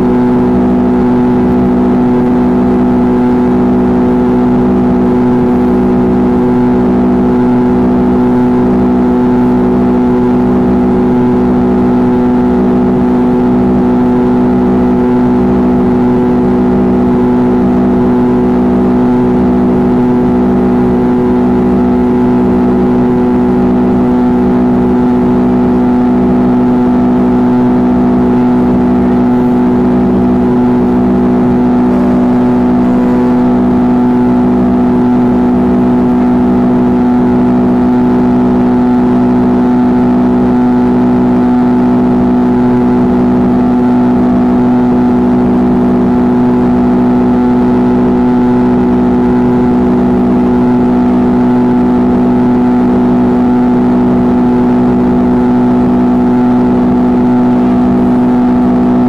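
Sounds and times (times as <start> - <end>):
jet engines humming in cabin: 0.0 - 59.0.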